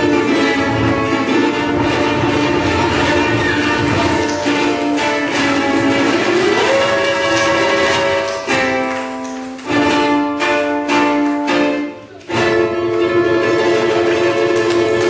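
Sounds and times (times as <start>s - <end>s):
ukulele strumming: 0.0s - 15.0s.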